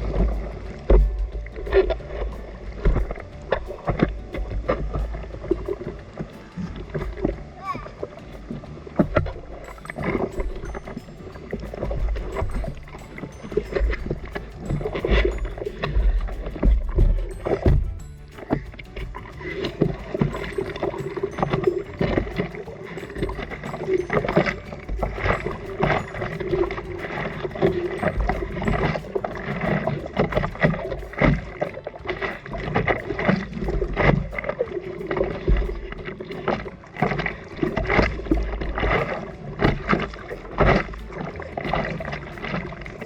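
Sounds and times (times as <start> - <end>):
water splashing and sloshing: 0.0 - 43.0
wind rumble on microphone: 0.0 - 43.0.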